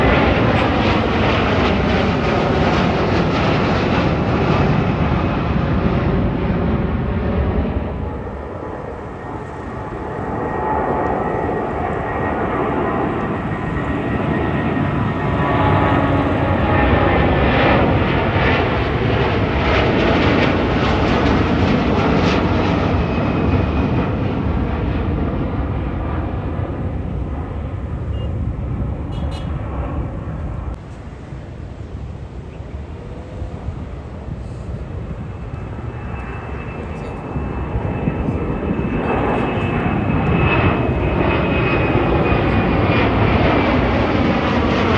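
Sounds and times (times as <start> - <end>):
airplane engines roaring past: 0.0 - 44.9.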